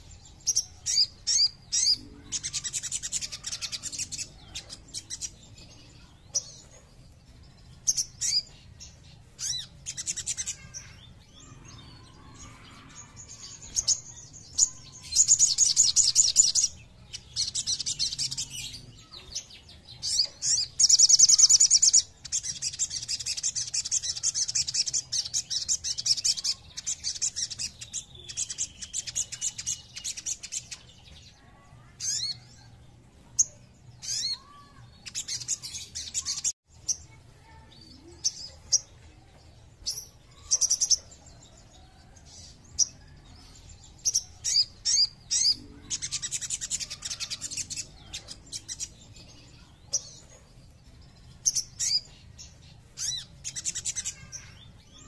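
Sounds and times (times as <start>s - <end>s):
bird trilling song: 0.0s - 55.0s.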